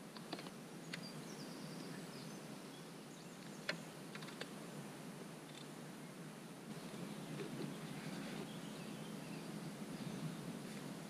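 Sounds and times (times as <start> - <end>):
low outdoor background: 0.0 - 11.0
birds chirping: 0.5 - 11.0.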